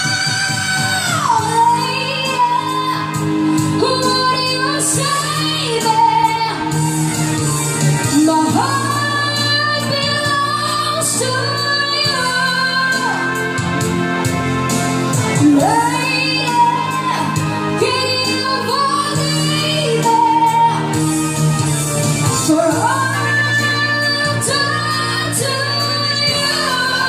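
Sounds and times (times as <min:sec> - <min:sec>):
instrumental backing: 0:00.0 - 0:27.0
woman singing into a microphone: 0:00.0 - 0:27.0.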